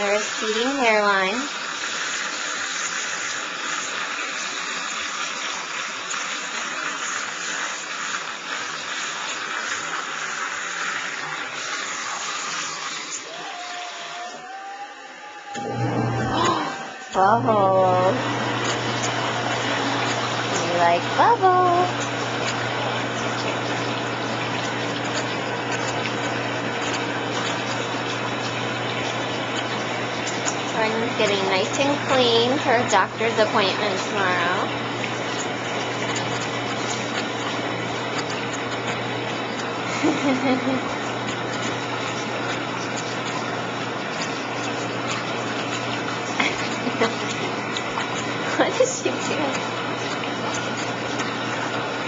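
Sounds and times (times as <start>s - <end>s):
water running into bath: 0.0s - 52.0s.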